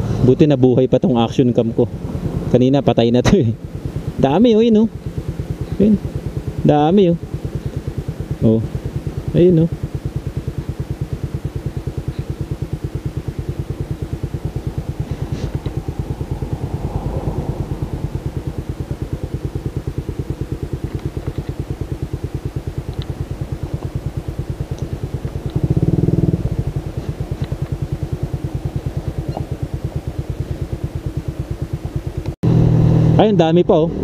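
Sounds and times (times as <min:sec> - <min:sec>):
loud steady tone: 0:00.0 - 0:34.0
motorcycle engine idling: 0:00.0 - 0:34.0.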